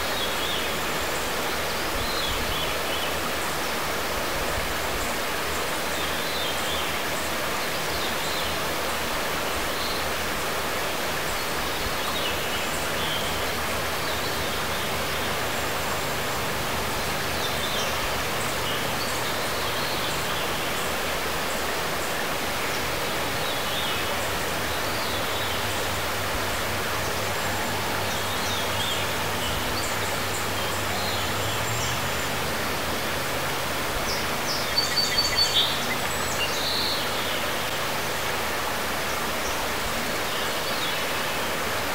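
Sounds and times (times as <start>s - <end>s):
river flowing over stones: 0.0s - 41.9s.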